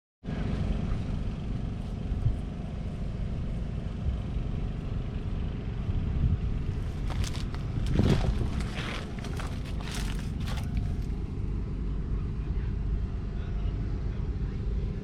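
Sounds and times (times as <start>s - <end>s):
tractor diesel engine rumbling: 0.3s - 14.5s.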